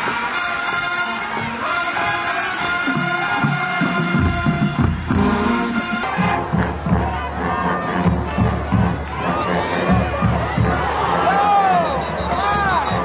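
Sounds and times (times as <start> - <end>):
music with held notes: 0.0 - 13.0.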